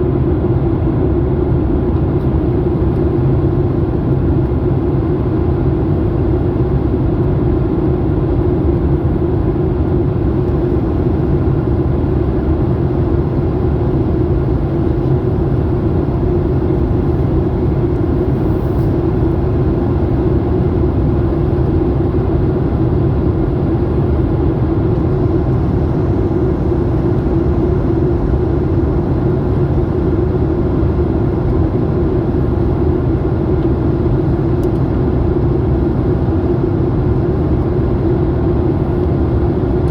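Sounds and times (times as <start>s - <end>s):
airliner cabin engine rumble: 0.0s - 39.9s
constant hum: 0.0s - 39.9s.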